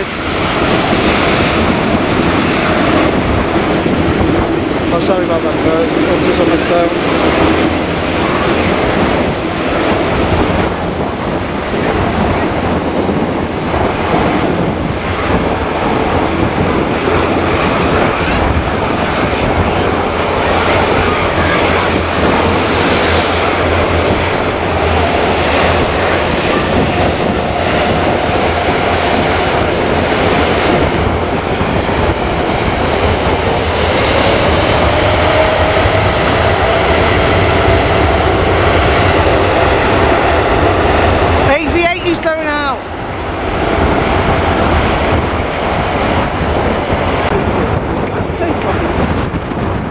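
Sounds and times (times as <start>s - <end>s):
faint jet engine whine: 0.0s - 49.0s
jet engines rushing: 0.0s - 49.9s
wind buffeting microphone: 0.0s - 49.9s.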